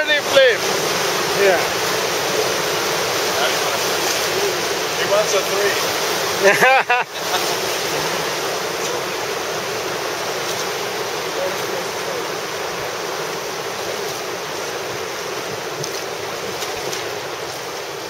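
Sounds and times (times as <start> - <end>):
whitewater river rushing: 0.0 - 18.0.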